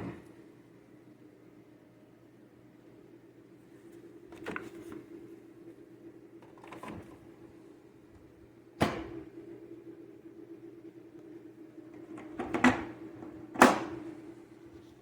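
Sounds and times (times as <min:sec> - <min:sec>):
mini fridge humming: 0:00.0 - 0:15.0.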